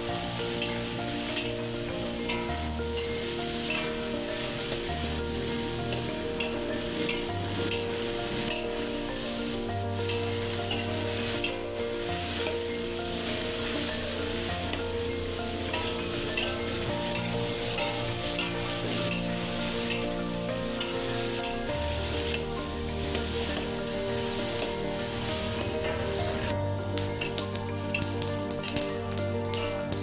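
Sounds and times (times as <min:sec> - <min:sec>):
peanuts frying in hot oil: 0:00.0 - 0:30.0
metal spatula scraping wok: 0:00.4 - 0:26.5.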